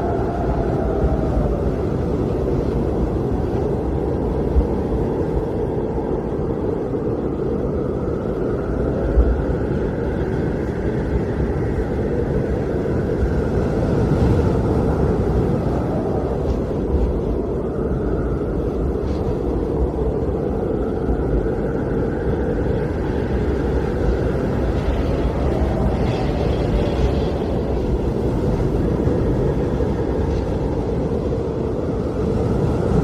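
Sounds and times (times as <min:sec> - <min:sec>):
blizzard wind blowing: 0:00.0 - 0:33.0.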